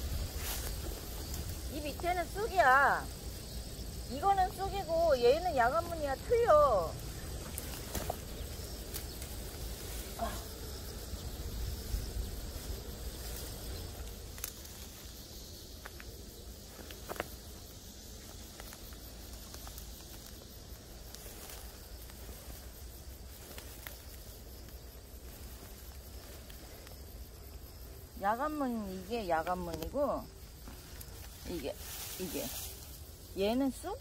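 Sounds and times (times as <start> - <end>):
insects chirring: 0.0 - 34.0
weeds rustling: 0.0 - 34.0.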